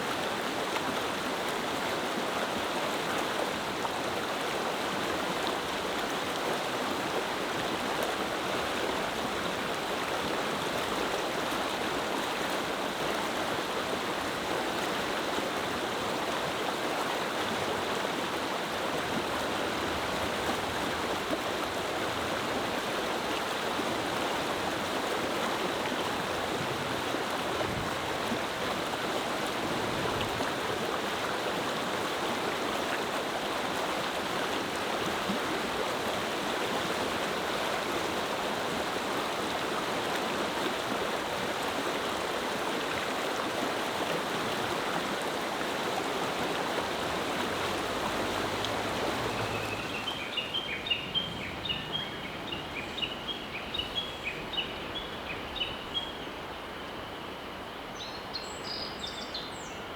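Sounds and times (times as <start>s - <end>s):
river water rushing: 0.0s - 56.5s.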